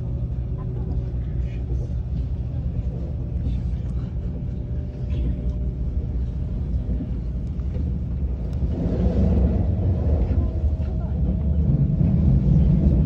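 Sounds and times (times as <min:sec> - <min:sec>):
faint steady whine: 0:00.0 - 0:13.0
train rumble inside cabin: 0:00.0 - 0:13.0.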